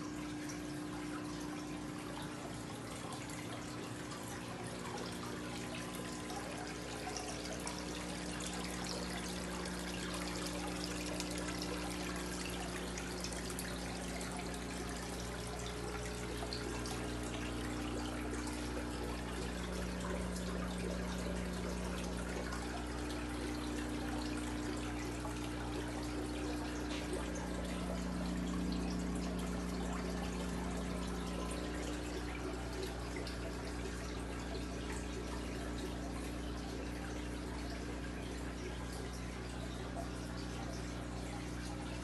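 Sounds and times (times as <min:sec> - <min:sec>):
filter water trickling and splashing: 0:00.0 - 0:42.0.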